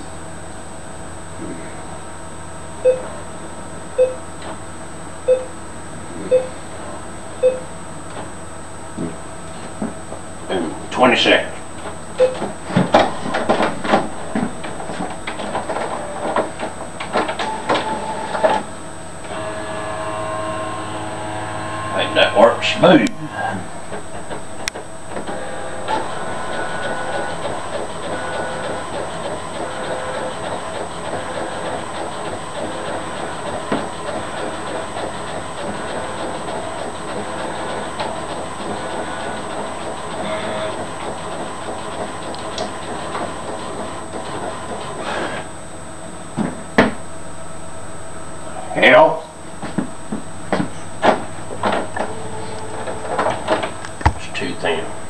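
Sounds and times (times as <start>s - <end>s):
microwave oven humming: 0.0s - 48.6s, 49.3s - 55.0s.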